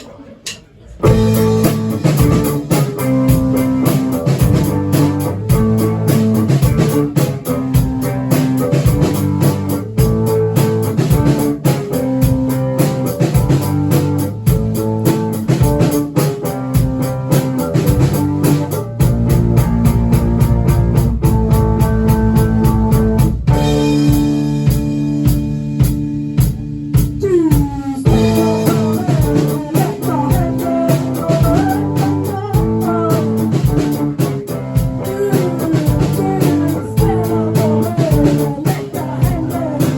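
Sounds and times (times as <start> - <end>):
rock band playing: 1.0 - 39.9.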